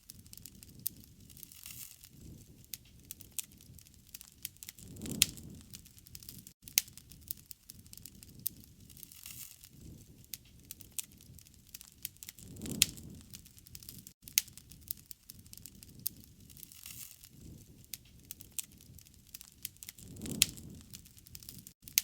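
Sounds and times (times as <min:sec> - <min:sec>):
campfire crackling: 0:00.0 - 0:22.0
fire pops and snaps: 0:00.0 - 0:22.0.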